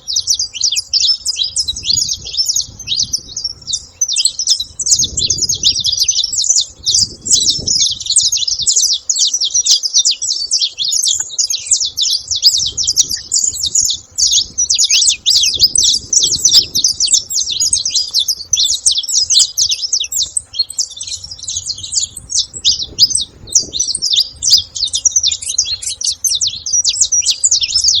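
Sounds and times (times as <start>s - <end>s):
flock of finches chirping: 0.0s - 28.0s.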